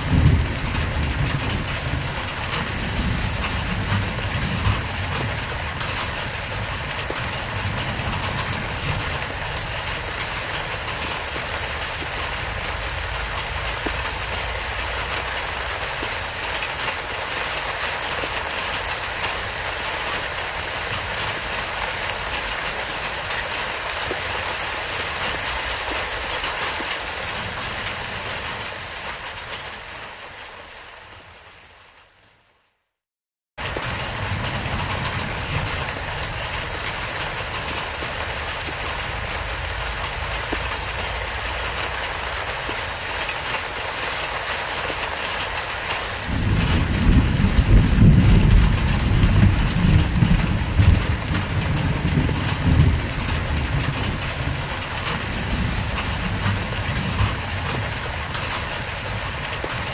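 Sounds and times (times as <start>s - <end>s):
rain falling on foliage: 0.0s - 33.0s, 33.6s - 59.9s.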